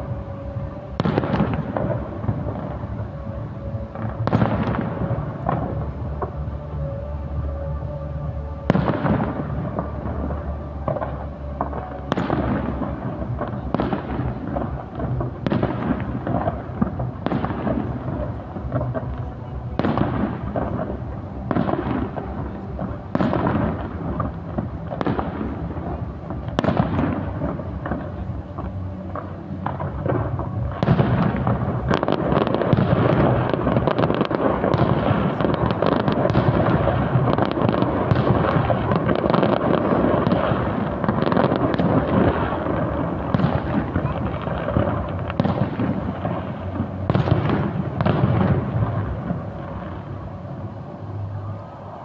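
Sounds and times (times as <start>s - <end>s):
firework crackles: 0.0s - 52.0s.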